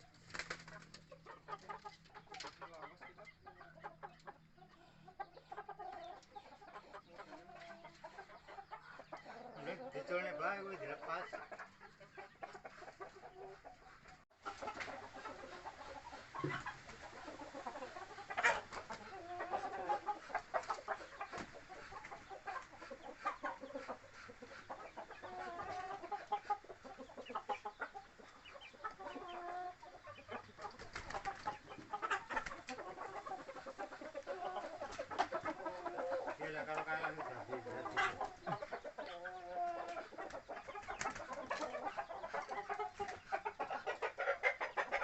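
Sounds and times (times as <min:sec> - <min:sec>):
roosters clucking: 0:00.0 - 0:45.0.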